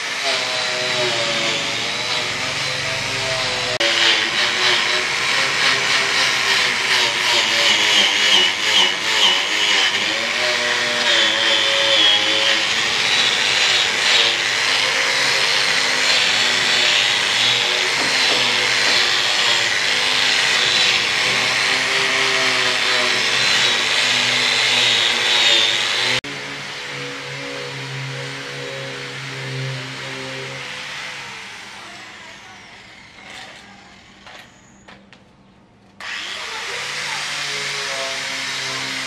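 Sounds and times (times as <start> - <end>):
wire brush grinder on steel: 0.0 - 34.6, 36.0 - 39.0.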